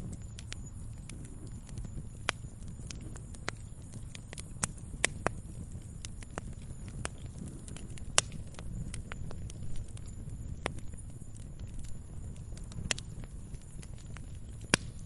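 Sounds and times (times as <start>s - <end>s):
fire popping and snapping: 0.0s - 15.0s
flames rumbling: 0.0s - 15.0s.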